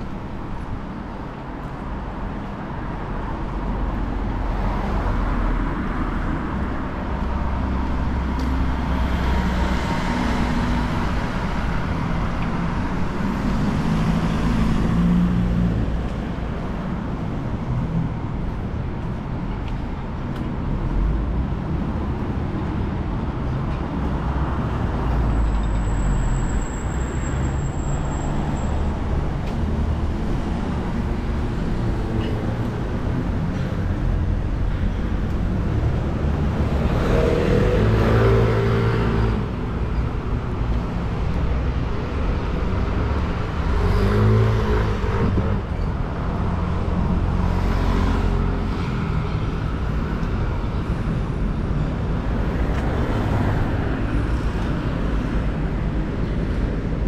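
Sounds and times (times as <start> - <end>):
road traffic engines droning: 0.0 - 57.0.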